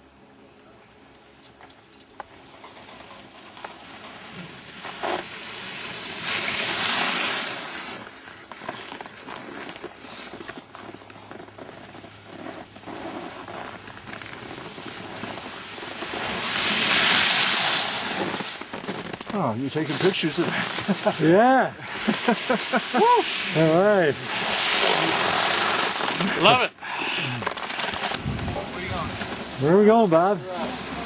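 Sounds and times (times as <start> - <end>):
skis scraping over snow: 2.2 - 31.0.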